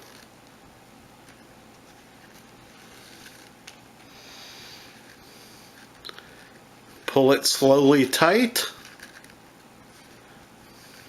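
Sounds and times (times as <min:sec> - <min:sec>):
cord rubbing rustle: 0:00.0 - 0:00.6, 0:01.2 - 0:11.0.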